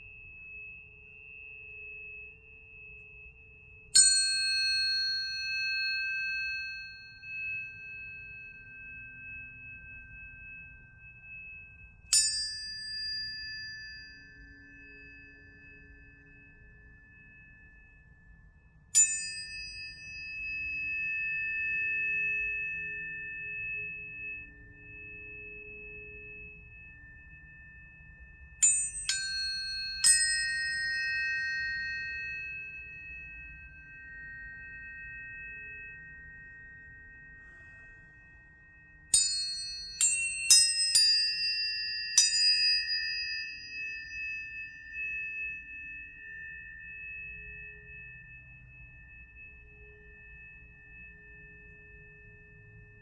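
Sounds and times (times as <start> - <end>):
tuning forks struck and ringing: 0.0 - 53.0.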